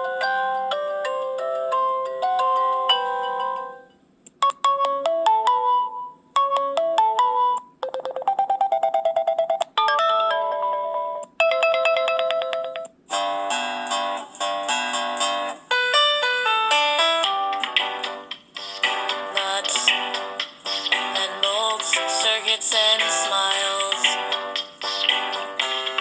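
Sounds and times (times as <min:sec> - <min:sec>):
phone ringtone melodies: 0:00.0 - 0:26.0.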